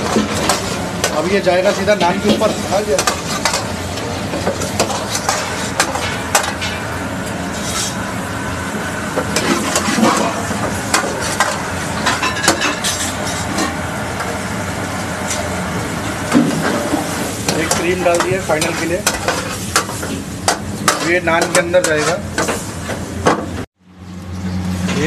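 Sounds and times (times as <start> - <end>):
gas burner roar: 0.0 - 25.0.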